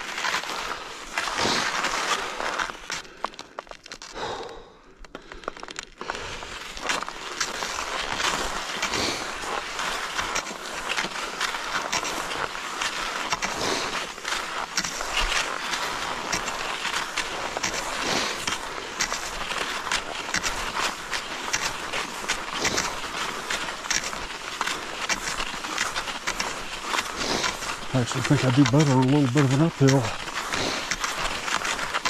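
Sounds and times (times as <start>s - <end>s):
pole plant clicks and crunches: 0.0s - 4.2s, 5.0s - 32.0s
skis sliding on snow: 0.0s - 4.4s, 5.6s - 32.0s.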